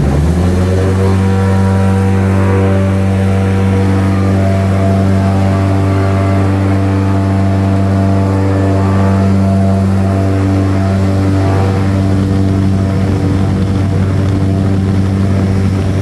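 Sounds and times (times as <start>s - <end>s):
airboat engine and propeller drone: 0.0s - 16.0s.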